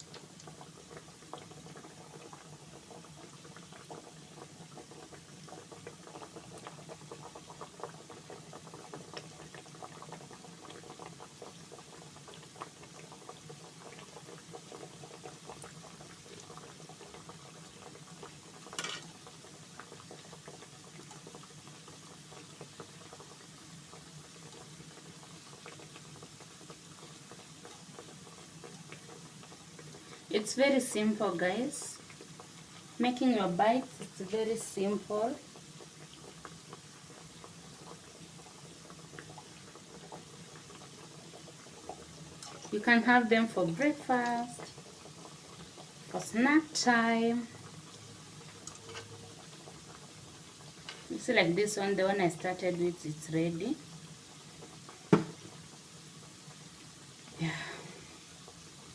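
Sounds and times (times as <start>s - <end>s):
dough deep-frying in hot oil: 0.0s - 58.9s.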